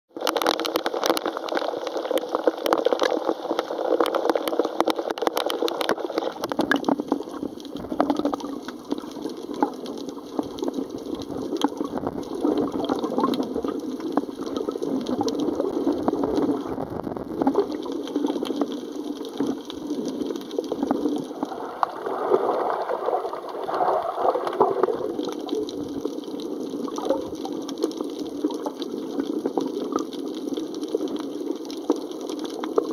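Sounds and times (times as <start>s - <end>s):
muffled underwater rushing: 0.2s - 32.9s.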